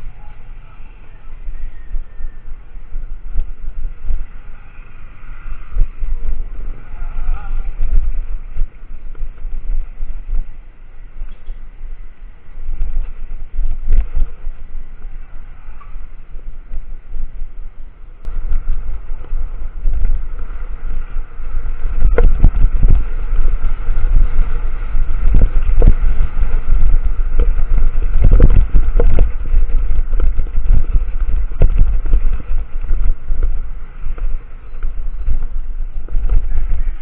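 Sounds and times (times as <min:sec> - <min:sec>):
wind rumble on microphone: 0:00.0 - 0:37.0.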